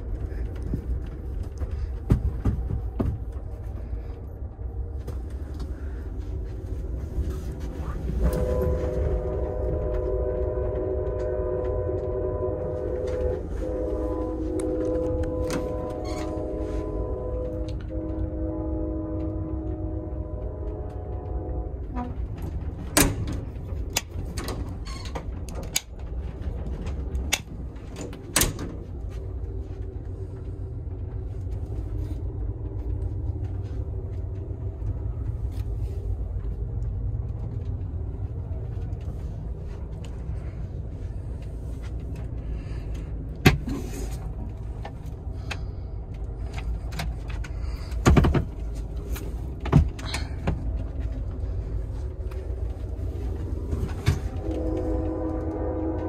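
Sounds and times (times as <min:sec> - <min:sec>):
train car rumbling on track: 0:00.0 - 0:56.0.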